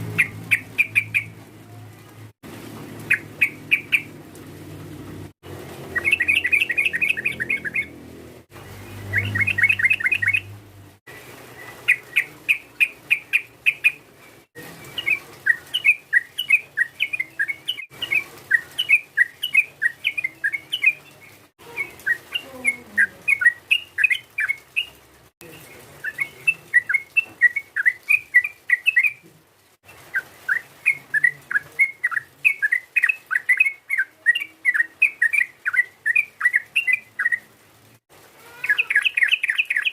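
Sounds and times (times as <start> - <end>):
bird singing chirpy phrases: 0.0 - 1.4, 3.1 - 4.1, 5.9 - 8.0, 8.7 - 10.5, 11.1 - 29.3, 29.9 - 37.5, 38.5 - 39.9.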